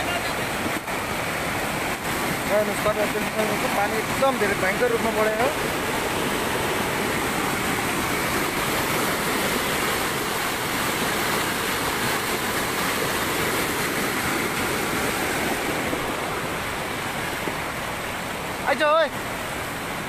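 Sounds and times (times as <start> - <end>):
flood water rushing: 0.0 - 20.0.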